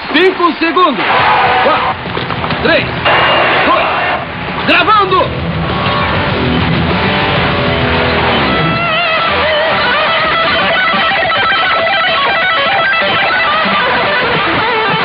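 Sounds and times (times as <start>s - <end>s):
electric guitar lead lines: 1.0s - 15.0s.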